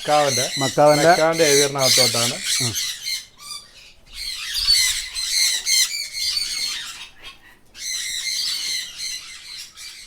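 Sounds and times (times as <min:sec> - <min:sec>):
parrots screeching: 0:00.0 - 0:10.0.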